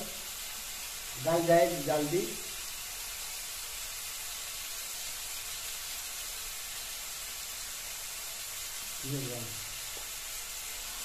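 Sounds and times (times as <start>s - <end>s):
tomatoes sizzling in a wok: 0.0s - 11.0s.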